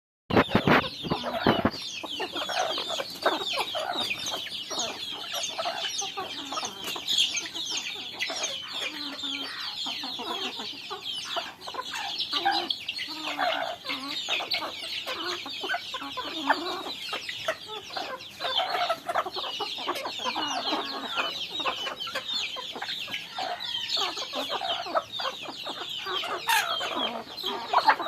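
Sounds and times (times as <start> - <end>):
chickens clucking: 0.3 - 28.0.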